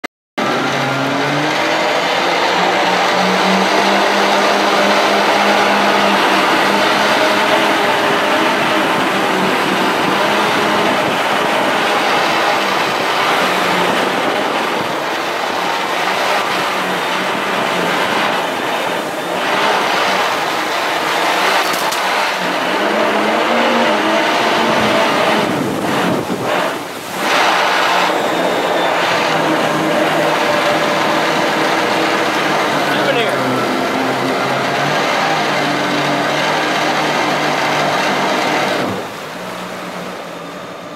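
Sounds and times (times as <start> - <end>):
jet boat engine running: 0.4 - 40.9.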